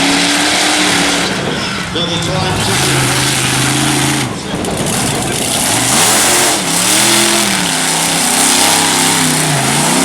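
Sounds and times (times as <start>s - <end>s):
loud rushing roar: 0.0s - 10.0s
monster truck engine revving: 0.0s - 10.0s.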